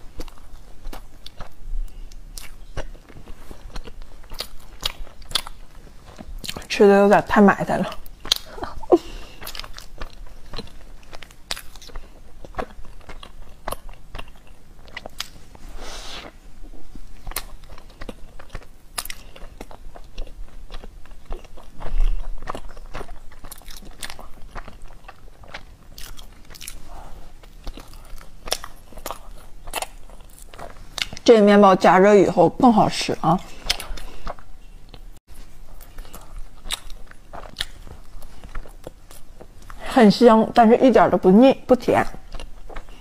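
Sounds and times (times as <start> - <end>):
chewing with wet mouth clicks: 0.1 - 6.7, 7.8 - 8.7, 9.4 - 15.4, 17.2 - 31.2, 33.4 - 39.8, 42.1 - 43.0.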